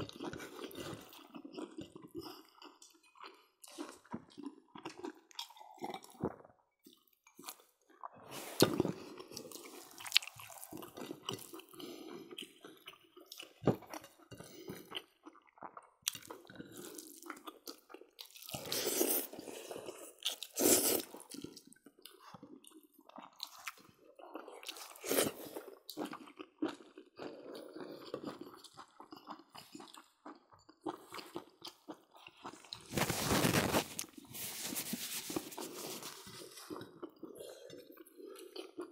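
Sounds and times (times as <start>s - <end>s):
people chewing and lip-smacking: 0.0s - 38.9s.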